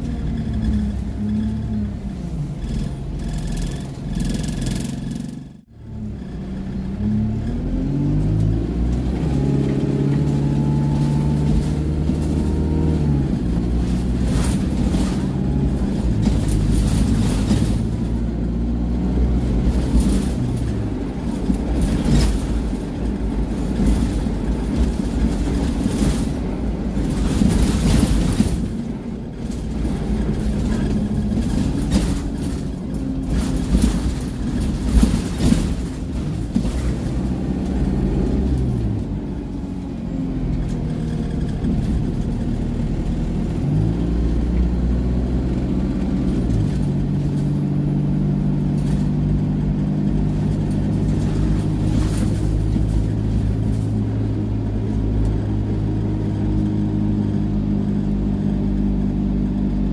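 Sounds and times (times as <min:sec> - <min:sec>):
bus body rattles: 0:00.0 - 0:59.9
bus diesel engine revving: 0:00.0 - 0:59.9
road noise rumble: 0:00.0 - 0:59.9.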